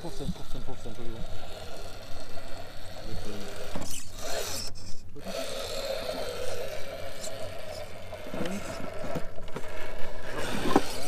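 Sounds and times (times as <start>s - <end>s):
electric motor and gearbox whining: 0.0s - 11.0s.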